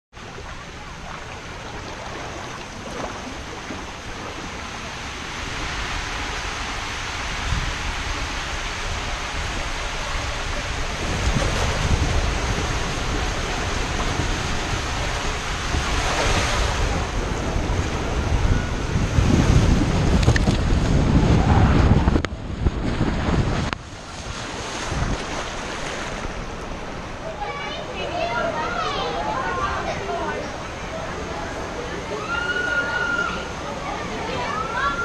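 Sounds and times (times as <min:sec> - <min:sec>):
water rushing in a water slide: 0:00.2 - 0:35.0.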